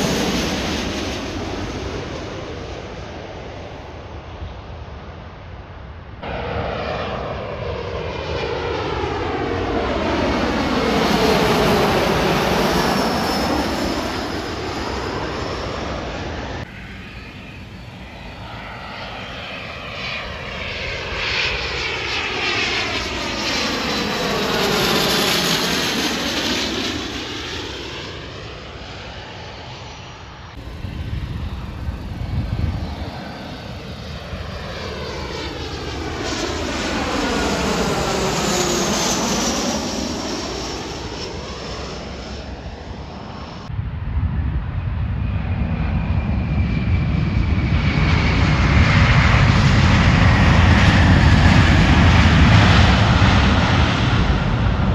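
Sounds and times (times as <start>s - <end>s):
jet aircraft passing overhead: 0.0s - 54.9s.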